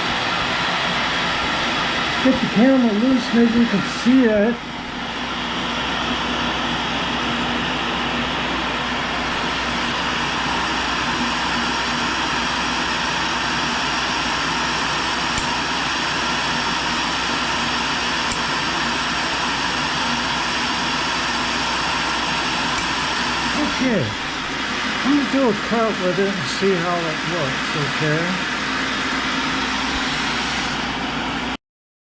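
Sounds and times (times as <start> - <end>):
grinder whirring hiss: 0.0 - 31.6.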